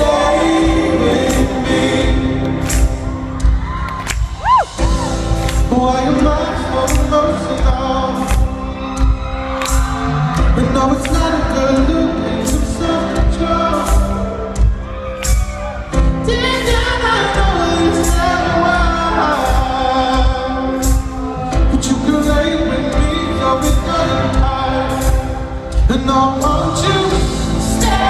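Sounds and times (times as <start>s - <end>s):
live pop band and singer: 0.0s - 28.0s.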